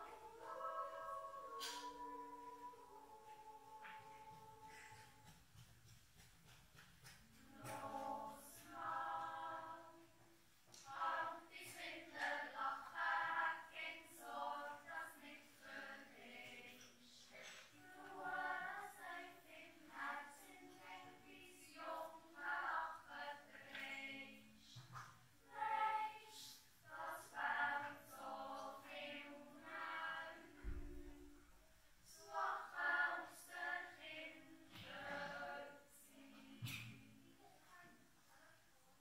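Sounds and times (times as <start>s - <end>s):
children's choir yodeling: 0.0s - 5.4s, 7.4s - 10.2s, 10.8s - 24.5s, 25.5s - 31.5s, 32.1s - 36.8s.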